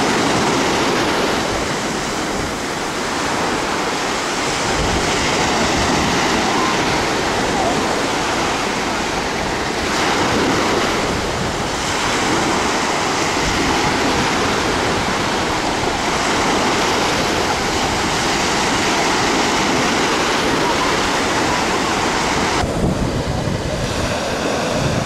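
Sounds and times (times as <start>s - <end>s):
waves washing onto sand: 0.0s - 25.0s
wind rumbling on microphone: 0.0s - 25.0s.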